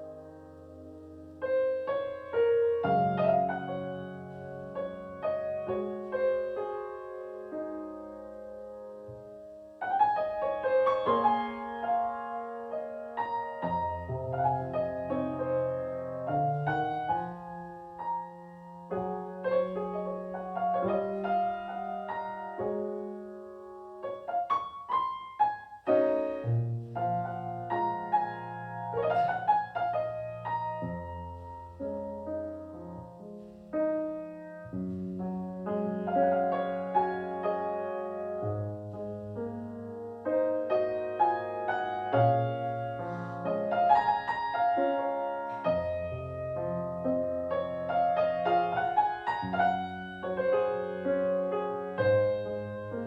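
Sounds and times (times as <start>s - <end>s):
piano playing chords and melody: 0.0s - 53.0s.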